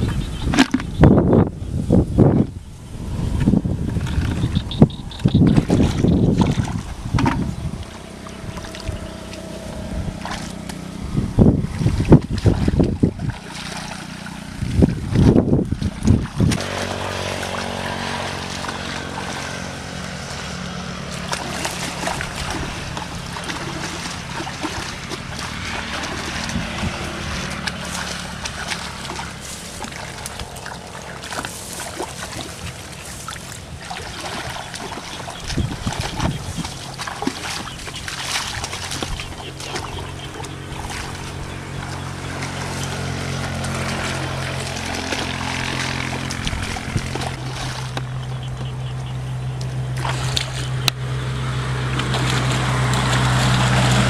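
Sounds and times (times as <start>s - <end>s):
muddy water splashing: 0.0s - 54.0s
steady low drone: 0.0s - 54.0s
sharp splashes: 3.9s - 54.0s.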